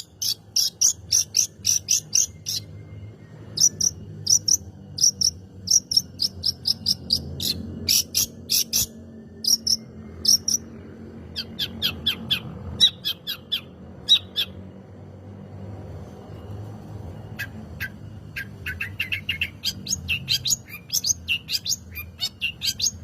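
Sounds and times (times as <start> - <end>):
bird chirping high and sharp: 0.0 - 10.7, 11.3 - 14.6, 17.4 - 23.0.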